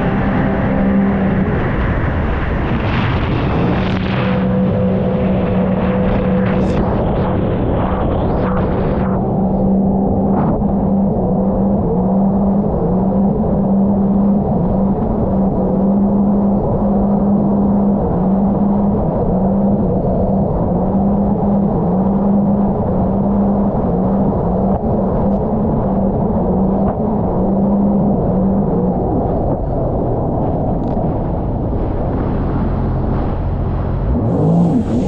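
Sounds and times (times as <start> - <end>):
constant rushing noise: 0.0 - 35.0
jet ski engine running: 0.0 - 35.0.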